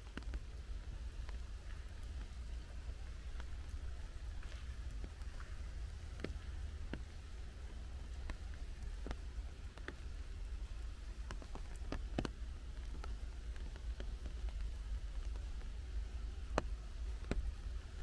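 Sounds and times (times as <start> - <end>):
steady low rumble: 0.0 - 18.0
water drops tapping on leaves: 0.0 - 18.0.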